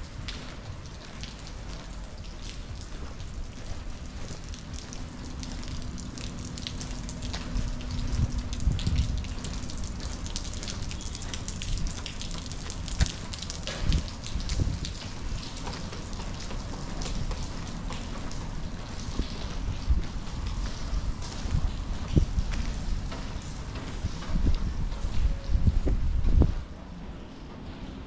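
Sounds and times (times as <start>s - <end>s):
faint steady hum: 0.0s - 28.0s
low uneven rumble: 0.0s - 28.0s
rain drops ticking: 0.0s - 28.0s.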